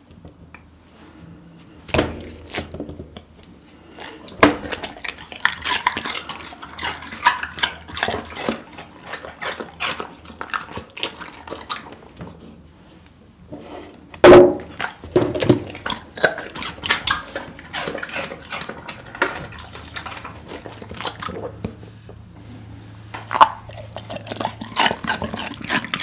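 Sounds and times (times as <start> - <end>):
dog chewing cucumber: 2.0 - 12.6, 14.2 - 21.9, 23.2 - 26.0.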